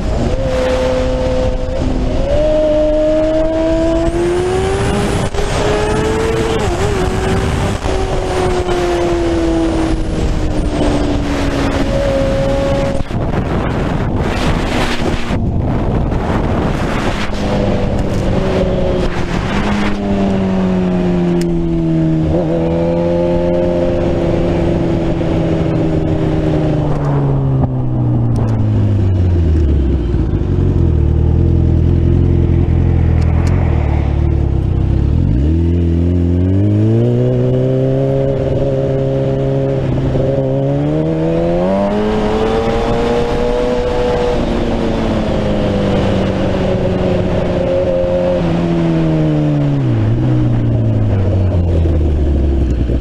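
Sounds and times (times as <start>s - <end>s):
motorcycle engine: 0.0s - 53.0s
wind noise: 0.0s - 53.0s.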